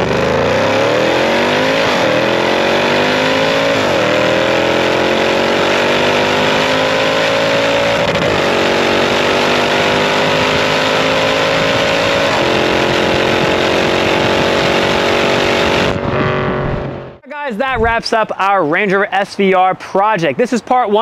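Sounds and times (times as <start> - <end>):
car engine accelerating: 0.0 - 17.2
wind and road noise: 0.0 - 18.2.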